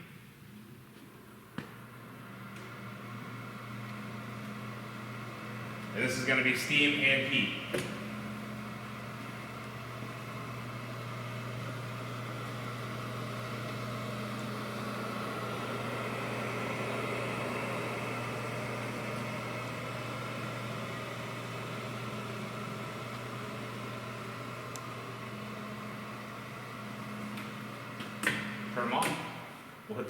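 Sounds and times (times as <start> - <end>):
humidifier hum and airy rush: 0.0 - 30.0.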